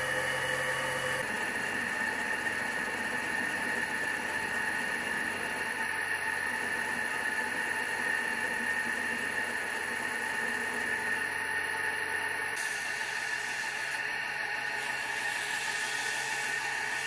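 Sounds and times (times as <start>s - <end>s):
lathe drive whine: 0.0s - 17.0s.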